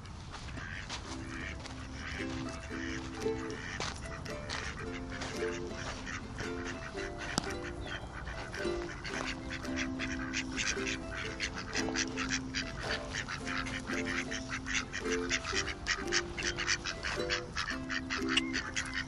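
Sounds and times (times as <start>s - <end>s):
ducks quacking: 0.3s - 19.0s
slow background music: 1.1s - 19.0s.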